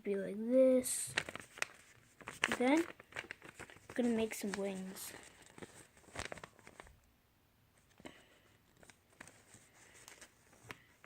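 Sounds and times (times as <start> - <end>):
paper rustling and creasing: 1.0 - 7.0, 7.8 - 11.0.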